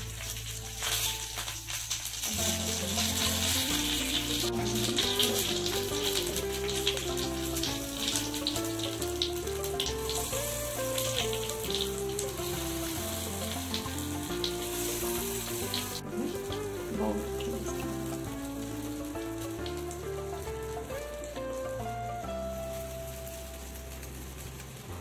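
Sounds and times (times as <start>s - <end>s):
batter sizzling in a pan: 0.0s - 25.0s
slow melody over bass: 0.0s - 25.0s.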